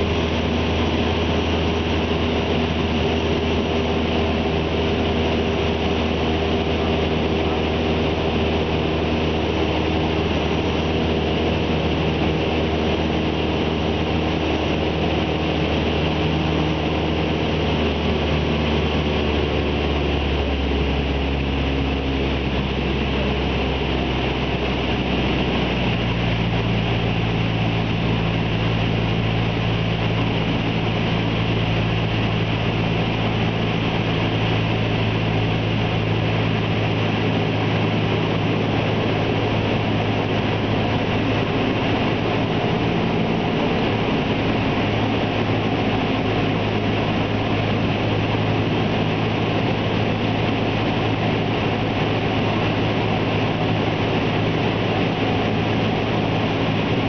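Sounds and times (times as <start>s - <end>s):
propeller engine droning: 0.0s - 57.0s.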